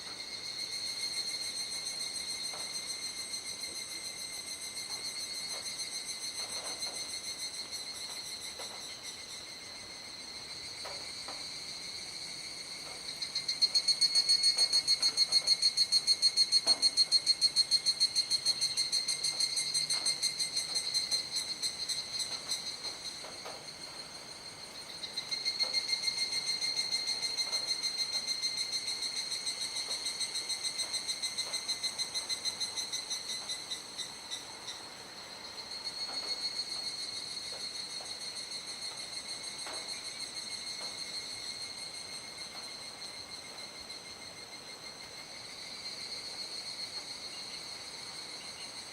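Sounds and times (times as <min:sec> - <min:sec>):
cicadas high-pitched drone: 0:00.0 - 0:48.9
pulsing cicada call: 0:00.0 - 0:48.9.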